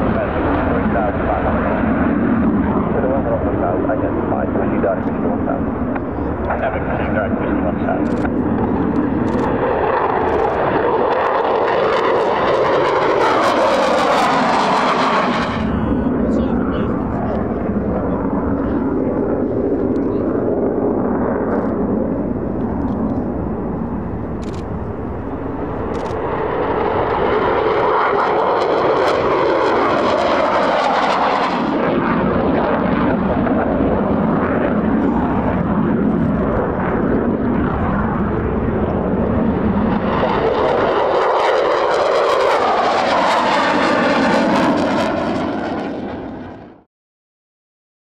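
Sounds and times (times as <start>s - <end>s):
jet engine roar: 0.0s - 46.9s.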